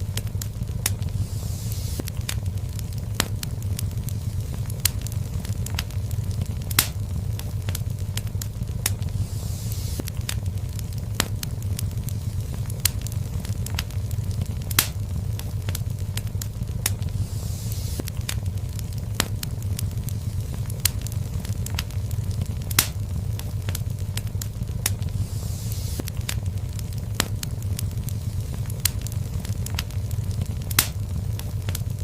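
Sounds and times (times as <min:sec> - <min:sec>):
fire crackling and popping: 0:00.0 - 0:32.0
fire flames rumbling: 0:00.0 - 0:32.0
soft hiss: 0:00.0 - 0:32.0.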